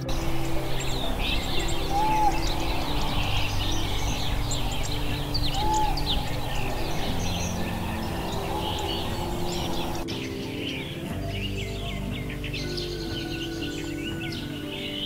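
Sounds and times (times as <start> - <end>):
small birds chirping: 0.0 - 15.0
soft background music: 0.0 - 15.0.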